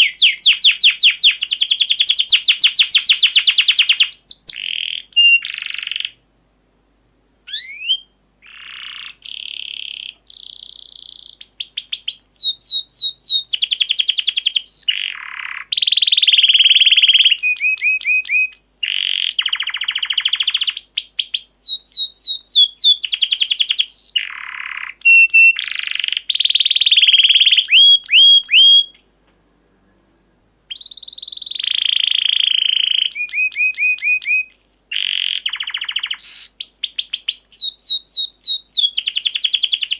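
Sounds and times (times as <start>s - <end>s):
canary singing trills: 0.0s - 6.2s, 7.5s - 29.4s, 30.7s - 39.9s.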